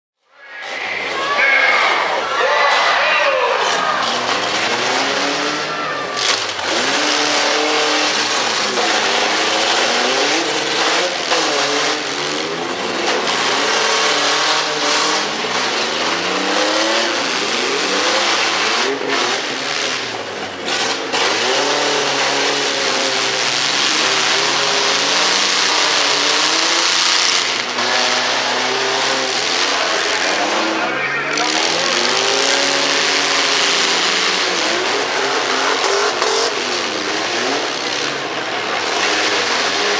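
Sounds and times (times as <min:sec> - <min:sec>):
truck engines revving: 0:00.2 - 0:39.9.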